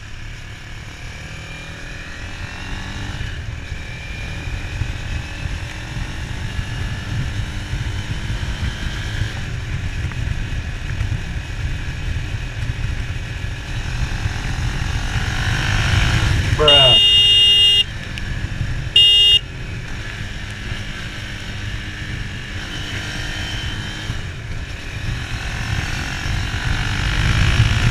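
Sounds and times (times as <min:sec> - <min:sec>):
motorcycle engine running: 0:00.0 - 0:27.9
wind rumble on microphone: 0:02.9 - 0:16.6, 0:17.8 - 0:27.9.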